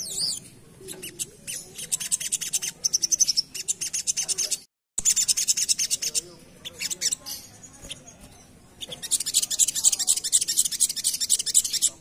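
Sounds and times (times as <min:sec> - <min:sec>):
bird singing chattering rattle: 0:00.0 - 0:12.0.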